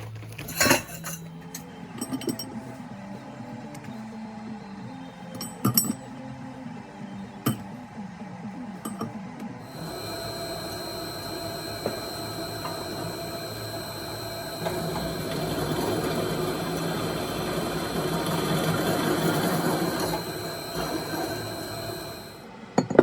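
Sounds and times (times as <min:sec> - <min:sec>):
small machine whining: 0:00.0 - 0:23.0.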